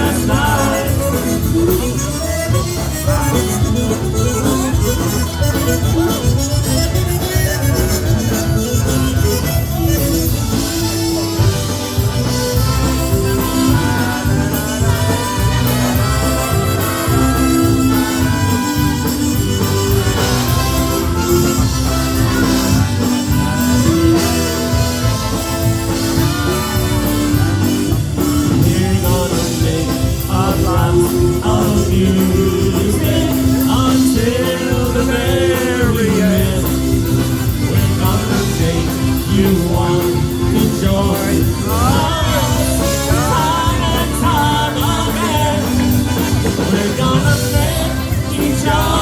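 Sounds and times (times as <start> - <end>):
polka band playing: 0.0 - 49.0.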